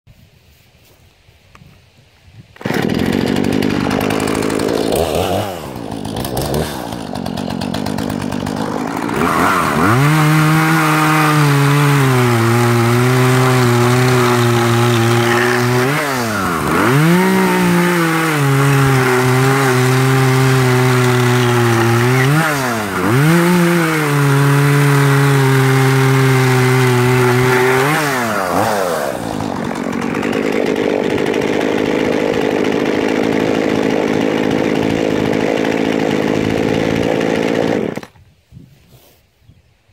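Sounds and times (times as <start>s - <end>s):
chainsaw idling: 2.6s - 38.1s
chainsaw cutting log: 2.6s - 38.3s.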